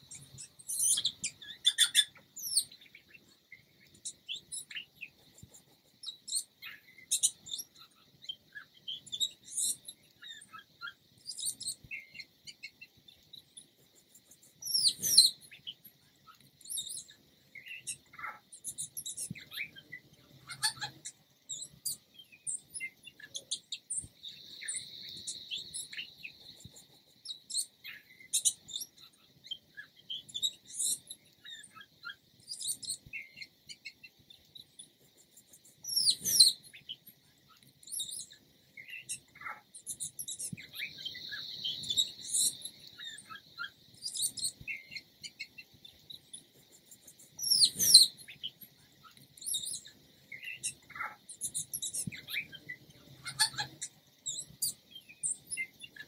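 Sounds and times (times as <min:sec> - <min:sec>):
bird singing soft song: 0:00.0 - 0:56.0.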